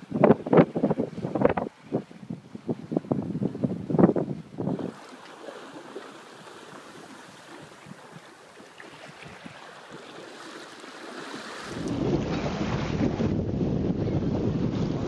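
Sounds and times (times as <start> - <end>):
water splashing along a hull: 0.0 - 15.0.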